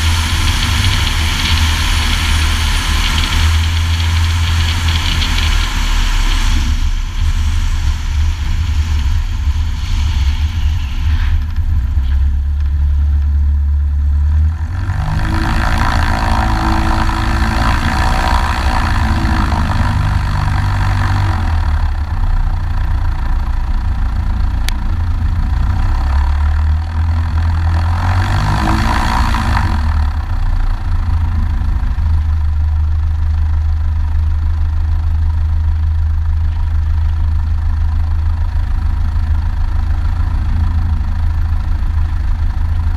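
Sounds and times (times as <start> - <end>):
light airplane engine and propeller: 0.0 - 42.9.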